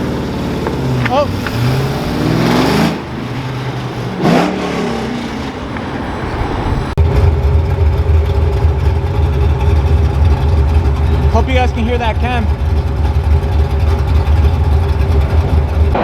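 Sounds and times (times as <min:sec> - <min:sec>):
car engine loping idle: 0:00.0 - 0:04.2, 0:07.0 - 0:16.0.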